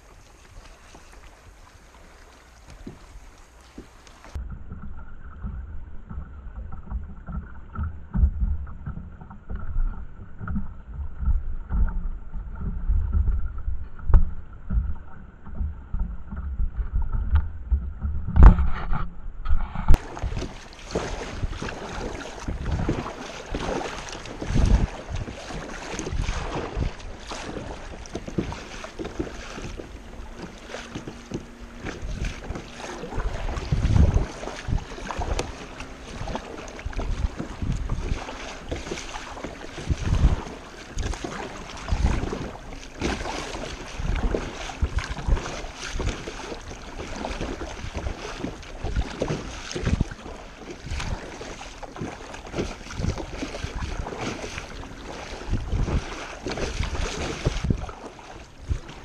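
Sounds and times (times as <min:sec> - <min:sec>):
paddle splashing water: 0:00.0 - 0:59.0
wind buffeting microphone: 0:02.5 - 0:59.0.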